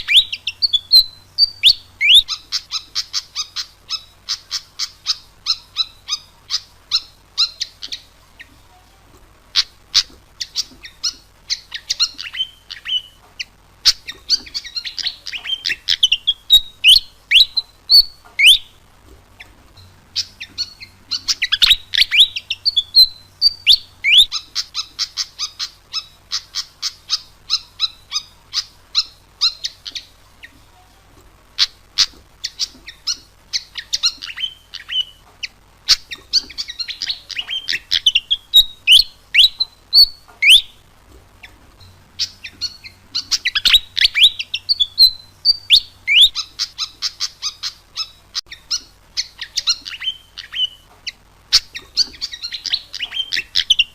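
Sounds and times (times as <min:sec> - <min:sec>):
bird singing high chirps: 0:00.0 - 0:08.5, 0:09.6 - 0:18.8, 0:20.1 - 0:30.6, 0:31.6 - 0:40.8, 0:41.8 - 0:53.9.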